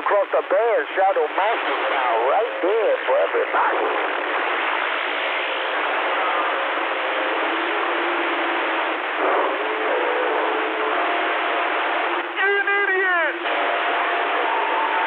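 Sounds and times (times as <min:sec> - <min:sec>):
garbled distant radio signals: 0:00.0 - 0:15.0
radio static hiss: 0:00.0 - 0:15.0.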